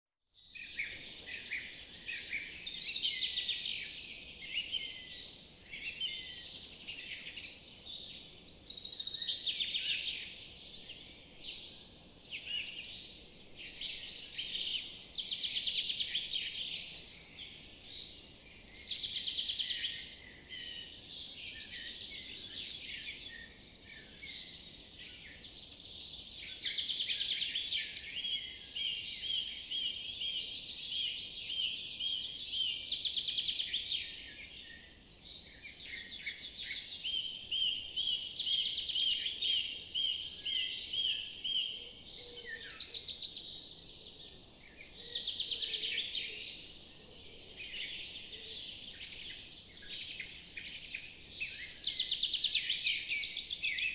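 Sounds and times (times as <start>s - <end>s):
birds chirping and singing: 0.6s - 53.9s.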